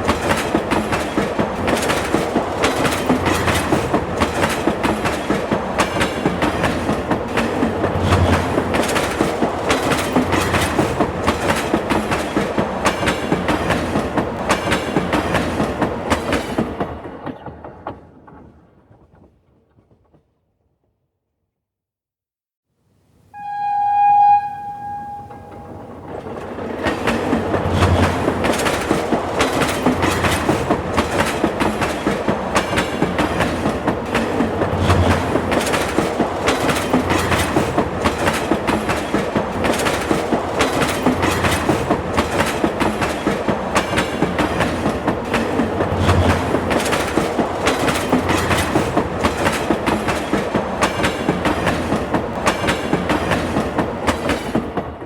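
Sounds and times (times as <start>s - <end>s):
train wheels clickety-clack: 0.0s - 20.4s, 25.5s - 55.0s.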